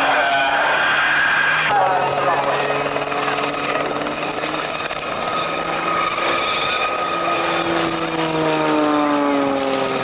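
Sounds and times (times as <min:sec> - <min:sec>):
propeller aircraft droning overhead: 0:00.0 - 0:10.0.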